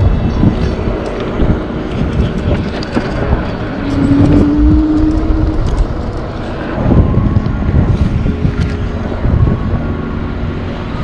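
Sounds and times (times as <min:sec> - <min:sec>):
steady tone: 0:00.0 - 0:11.0
wind and road noise: 0:00.0 - 0:11.0.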